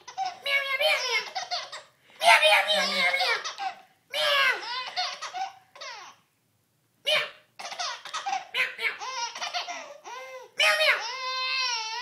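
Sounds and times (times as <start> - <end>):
baby laughing: 0.0 - 6.2, 7.6 - 12.0.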